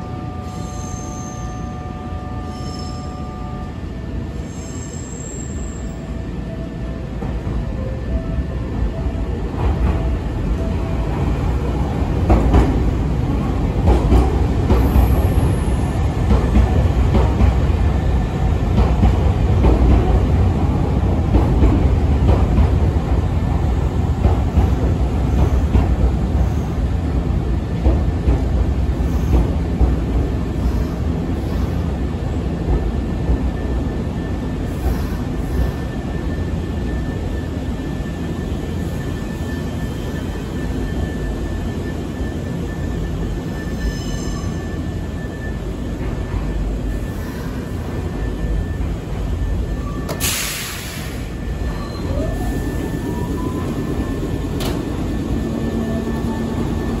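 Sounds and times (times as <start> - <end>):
train running gear rumble: 6.2 - 57.0.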